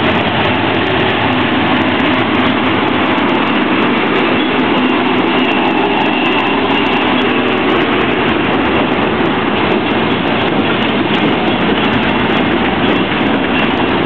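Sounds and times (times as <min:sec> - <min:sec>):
diesel locomotive engines running: 0:00.0 - 0:14.0
train wheels clattering on rails: 0:00.0 - 0:14.0.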